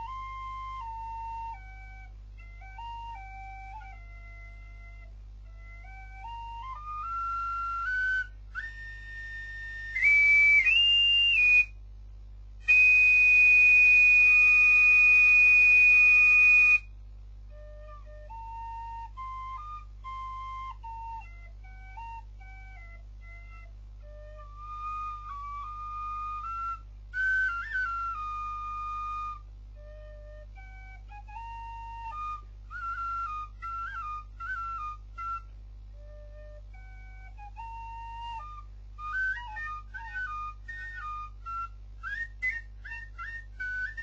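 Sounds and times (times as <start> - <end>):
end-blown flute melody: 0.0 - 11.8, 12.6 - 16.9, 17.5 - 44.0.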